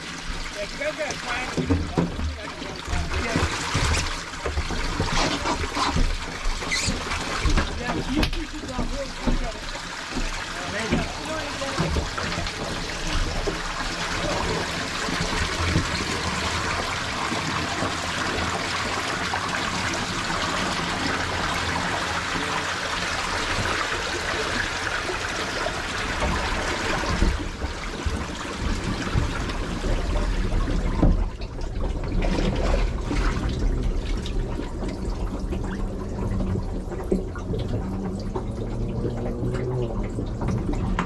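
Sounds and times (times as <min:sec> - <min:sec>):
water trickling and splashing: 0:00.0 - 0:41.0.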